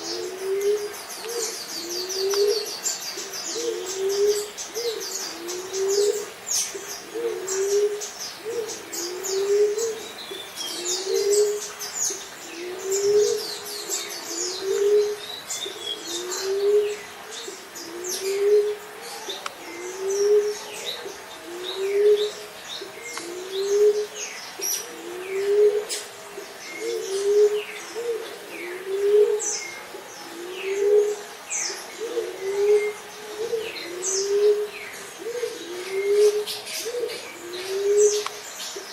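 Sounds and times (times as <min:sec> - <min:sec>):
dove cooing: 0:00.0 - 0:38.9
small birds chirping: 0:00.0 - 0:38.9.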